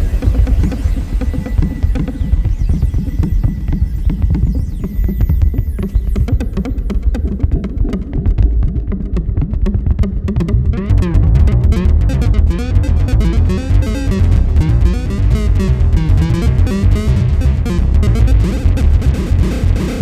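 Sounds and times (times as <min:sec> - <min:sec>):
pulsing low electronic rumble: 0:00.0 - 0:20.0
rapid electronic clicks: 0:00.0 - 0:20.0.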